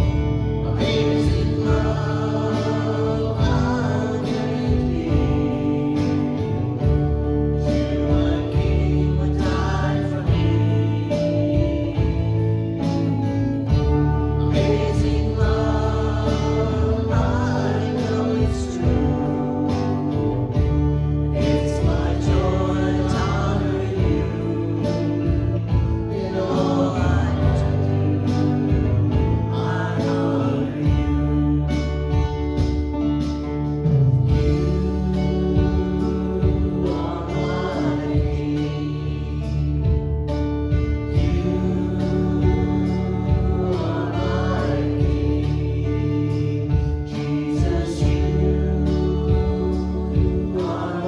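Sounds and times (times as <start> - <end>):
person singing: 0.0 - 33.2, 33.8 - 51.0
bass: 0.0 - 51.0
drums: 0.0 - 51.0
guitar: 0.0 - 51.0
live worship band music: 0.0 - 51.0.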